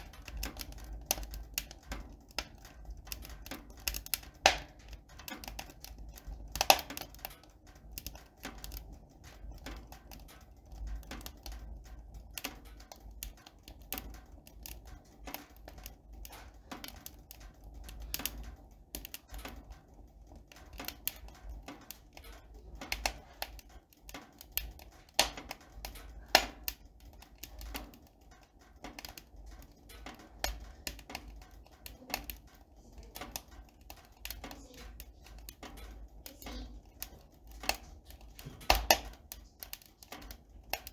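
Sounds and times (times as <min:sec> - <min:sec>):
small clicks and taps: 0:00.0 - 0:40.9.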